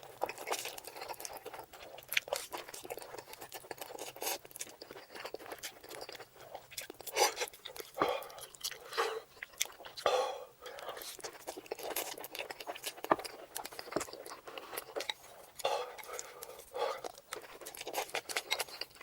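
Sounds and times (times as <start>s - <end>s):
person chewing noodles: 0.0s - 19.0s.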